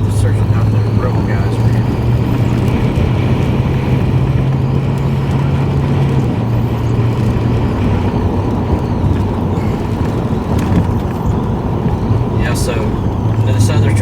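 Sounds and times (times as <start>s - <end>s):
low engine hum: 0.0s - 14.0s
road noise inside vehicle: 0.0s - 14.0s.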